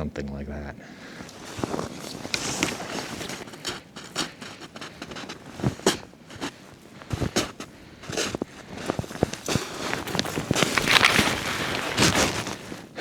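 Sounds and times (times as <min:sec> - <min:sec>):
footsteps crunching through snow: 0:01.0 - 0:13.0.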